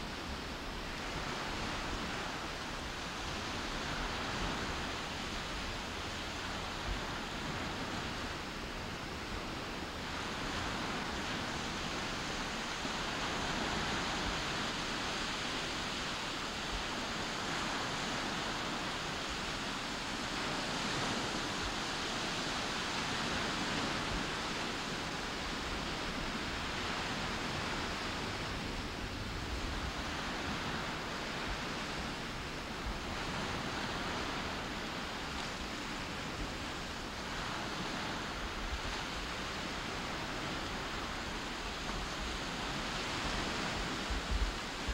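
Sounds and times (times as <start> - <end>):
small waves breaking on beach: 0.0 - 44.9.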